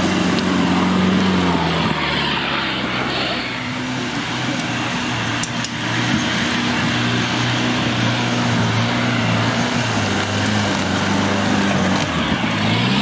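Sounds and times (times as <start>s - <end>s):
engine working under load: 0.0s - 13.0s
wheels churning soil: 0.0s - 13.0s.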